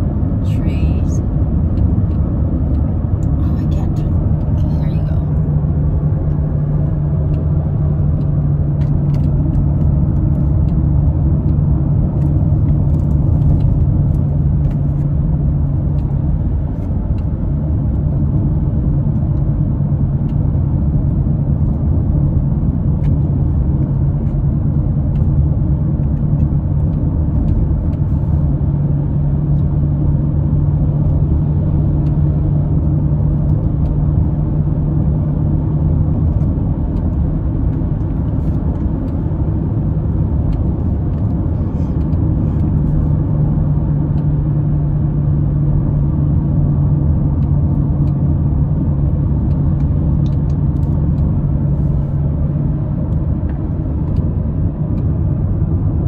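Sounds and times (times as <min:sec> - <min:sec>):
car engine and road rumble: 0:00.0 - 0:56.0
engine drone: 0:00.0 - 0:56.0.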